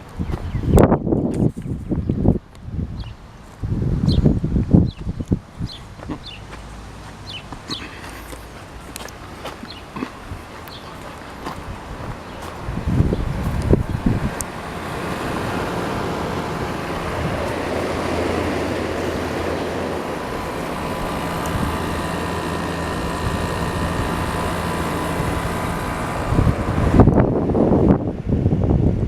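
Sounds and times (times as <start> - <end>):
air conditioner fan running: 0.0 - 29.0
loud irregular rumble: 3.2 - 29.0.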